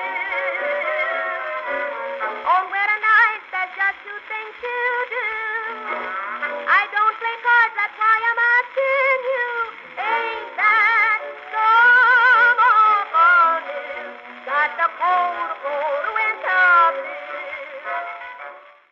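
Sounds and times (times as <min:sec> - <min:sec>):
instrumental blues music: 0:00.0 - 0:18.9.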